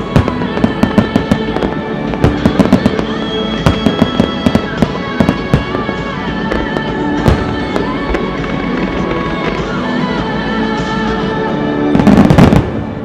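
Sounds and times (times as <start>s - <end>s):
fireworks bursting: 0.0s - 10.3s, 11.9s - 13.0s
music playing: 0.0s - 13.0s.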